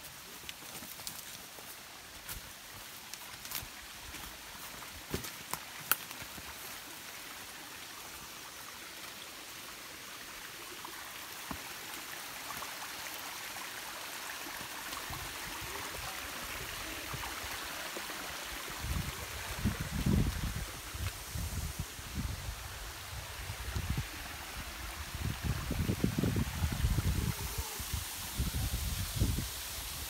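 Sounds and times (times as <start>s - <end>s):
stream water flowing: 0.0s - 30.0s.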